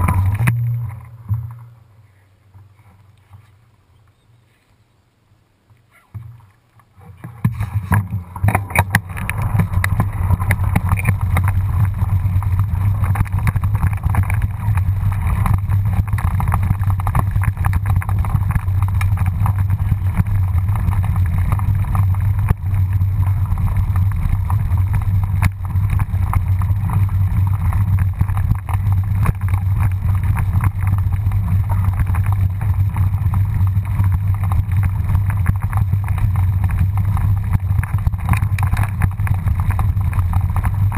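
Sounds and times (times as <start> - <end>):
bike rattling on dirt track: 0.0 - 1.9, 6.2 - 40.9
wind buffeting microphone: 7.4 - 40.9.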